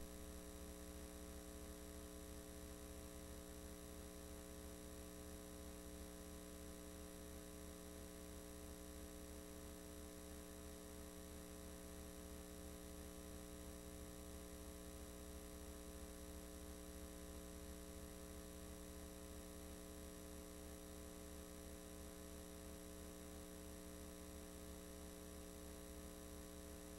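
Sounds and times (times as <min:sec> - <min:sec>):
mains hum: 0:00.0 - 0:26.9.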